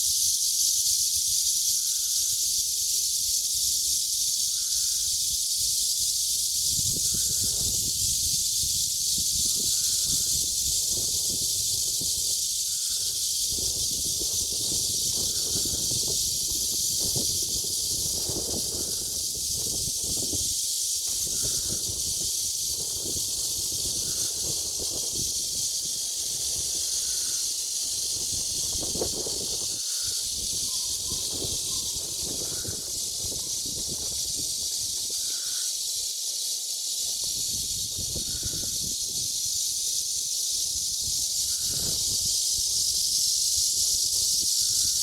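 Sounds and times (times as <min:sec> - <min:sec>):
cicadas buzzing: 0:00.0 - 0:45.0.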